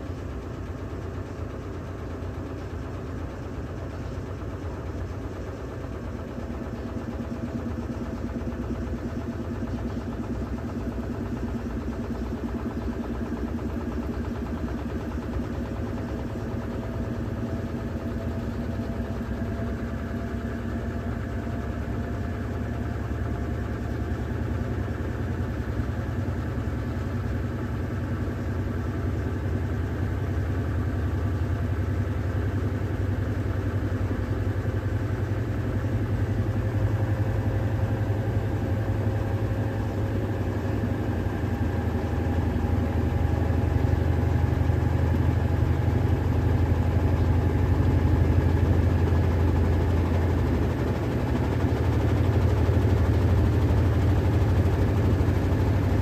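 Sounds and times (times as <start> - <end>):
washing machine spinning hum: 0.0 - 56.0.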